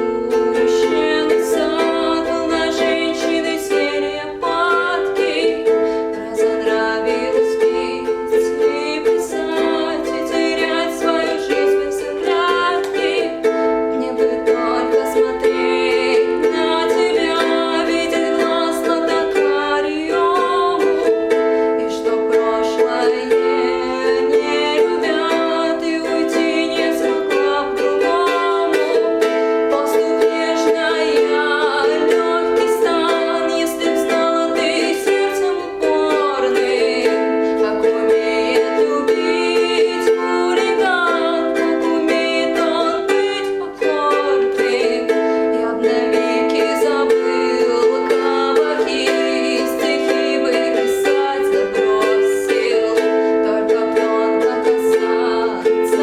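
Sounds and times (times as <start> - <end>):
woman singing slow song: 0.0 - 56.0.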